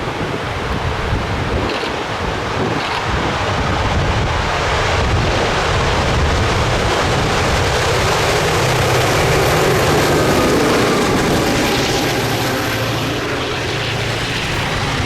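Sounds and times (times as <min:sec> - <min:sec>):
diesel freight train drone: 0:00.0 - 0:15.0
wind noise on microphone: 0:00.0 - 0:15.0.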